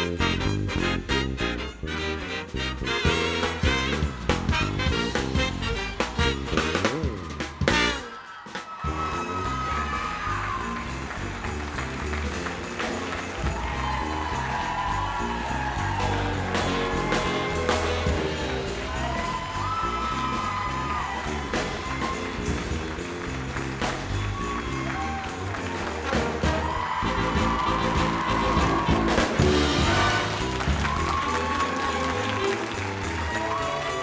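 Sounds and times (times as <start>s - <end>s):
big band jazz music: 0.0s - 34.0s.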